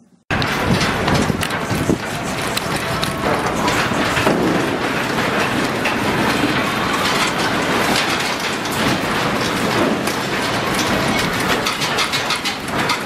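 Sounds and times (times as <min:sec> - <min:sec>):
steel structure rattling and clattering: 0:00.3 - 0:13.0.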